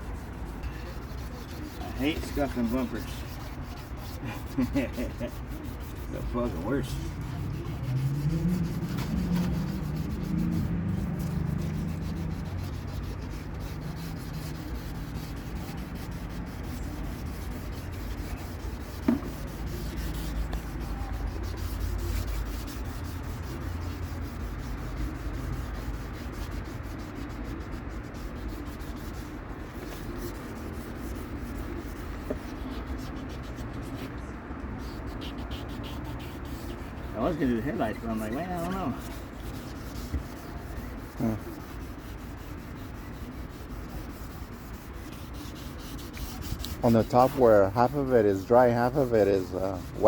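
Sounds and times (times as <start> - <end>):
abrasive rubbing on bumper: 0.0 - 34.2, 34.8 - 50.0.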